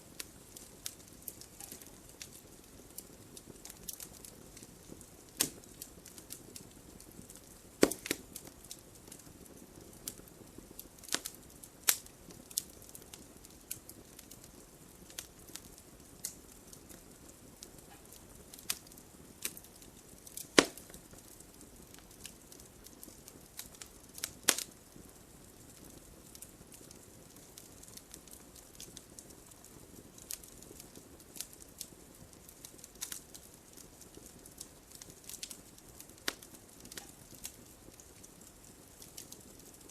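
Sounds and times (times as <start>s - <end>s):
soft hiss of flame: 0.0s - 39.9s
wood fire crackling: 0.0s - 39.9s
sharp pops of fire: 0.1s - 39.9s.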